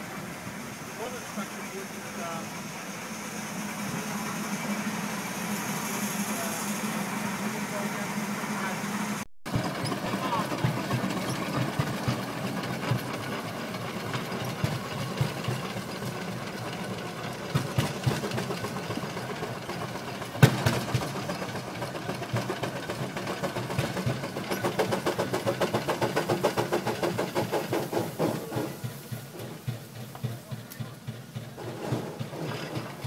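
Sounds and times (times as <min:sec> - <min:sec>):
steam engine exhaust beating: 0:00.0 - 0:33.0.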